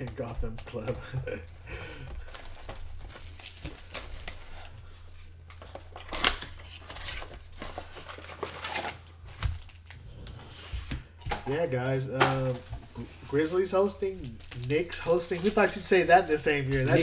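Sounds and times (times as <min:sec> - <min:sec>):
packaging crinkling and rustling: 0:00.0 - 0:10.4, 0:13.4 - 0:17.0.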